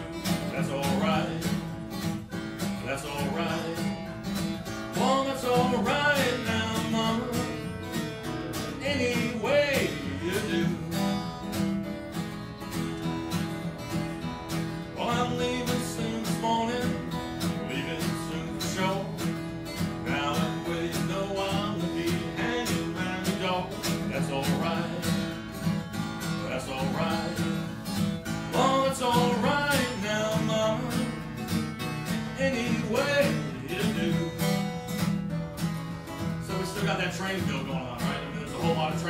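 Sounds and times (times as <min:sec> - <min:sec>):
blues guitar solo: 0:00.0 - 0:39.0
strummed guitar rhythm: 0:00.0 - 0:39.0.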